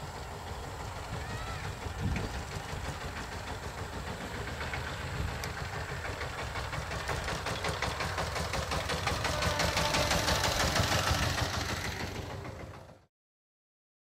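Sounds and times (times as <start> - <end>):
diesel locomotive engine rumbling: 0.0 - 13.1.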